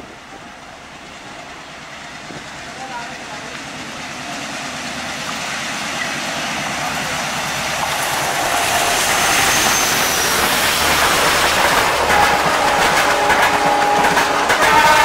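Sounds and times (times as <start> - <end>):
diesel locomotive passing: 0.0 - 15.0
passenger coaches rolling by: 0.0 - 15.0.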